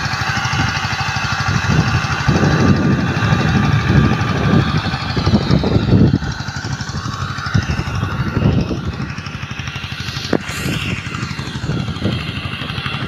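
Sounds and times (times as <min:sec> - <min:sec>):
sprayer motorcycle engine running: 0:00.0 - 0:13.0.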